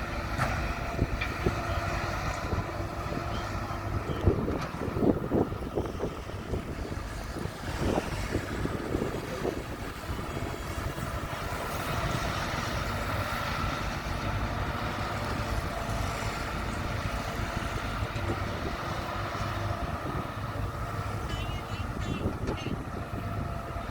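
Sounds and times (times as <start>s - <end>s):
diesel engine rumbling: 0.0s - 23.9s.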